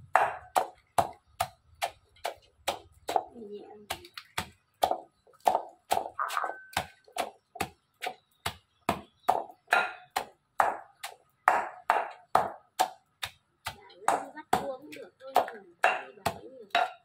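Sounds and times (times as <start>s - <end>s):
pestle pounding in mortar: 0.0s - 17.0s.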